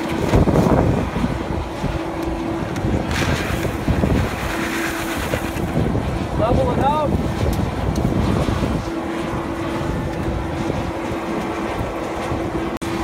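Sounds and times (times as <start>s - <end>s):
air blower running: 0.0s - 13.0s
wind buffeting microphone: 0.0s - 13.0s.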